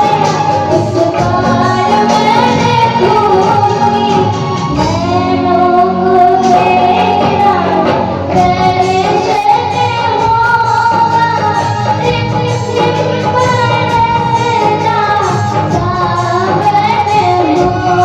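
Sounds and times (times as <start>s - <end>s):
girl singing in a high voice: 0.0s - 18.0s
live instrumental accompaniment: 0.0s - 18.0s.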